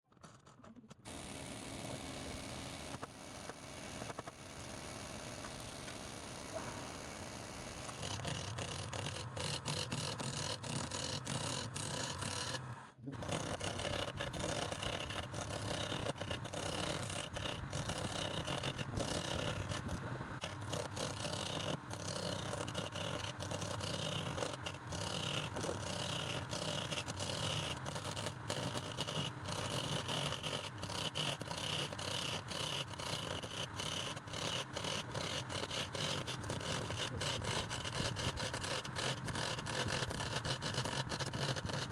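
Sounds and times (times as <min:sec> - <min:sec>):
power tool whirring on wood: 0:01.0 - 0:41.9.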